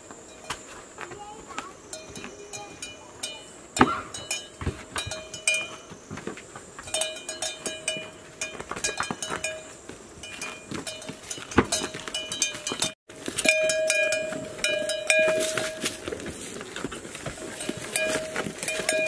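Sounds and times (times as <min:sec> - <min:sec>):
hooves on stone steps: 0:00.0 - 0:19.0
cattle bells clinking: 0:01.8 - 0:06.1, 0:06.8 - 0:19.0.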